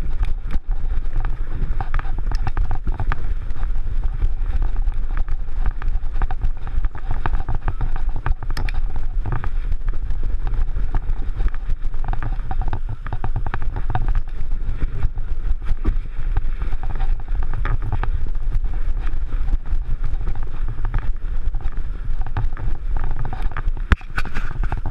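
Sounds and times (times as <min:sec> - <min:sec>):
camera knocking and rubbing: 0:00.0 - 0:24.9
wind rumble on microphone: 0:00.0 - 0:24.9.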